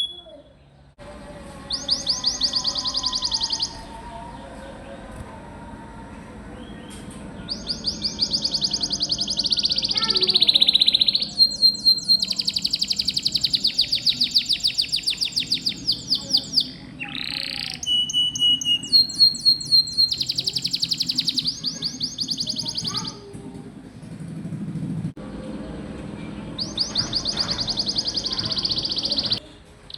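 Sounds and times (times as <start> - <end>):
canary singing trills: 0.0 - 0.9, 1.6 - 5.2, 6.6 - 23.3, 26.4 - 29.9.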